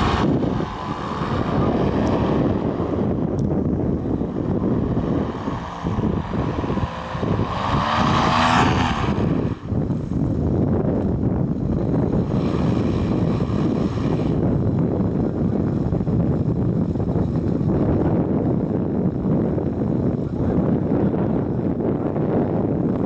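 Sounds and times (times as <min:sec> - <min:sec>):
propeller engine drone: 0:00.0 - 0:23.0
wind buffeting microphone: 0:00.0 - 0:23.0.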